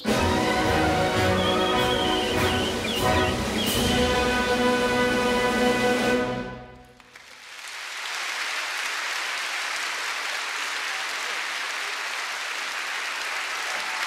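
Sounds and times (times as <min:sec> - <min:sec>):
audience applauding: 0:00.0 - 0:06.1, 0:06.8 - 0:14.0.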